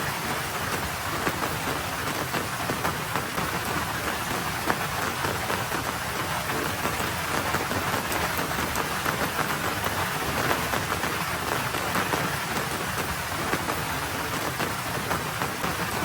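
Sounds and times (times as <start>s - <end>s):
light rain on road: 0.0s - 16.0s.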